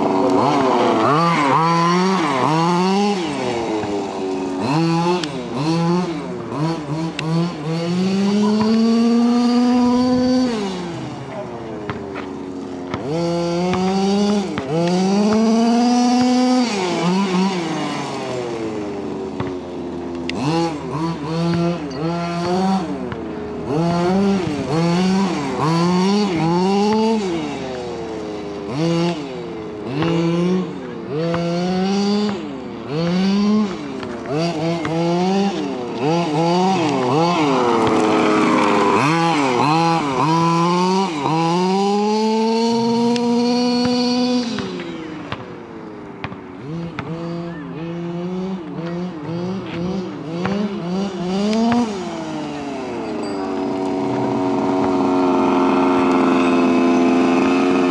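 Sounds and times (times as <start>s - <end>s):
small two-stroke engine revving: 0.0s - 57.9s.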